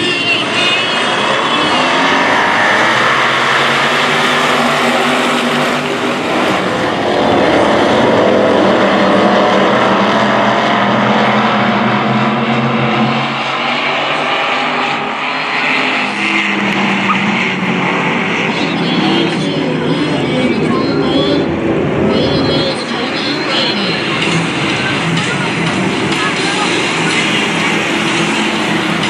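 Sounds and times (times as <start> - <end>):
stock car engines racing: 0.0 - 29.0.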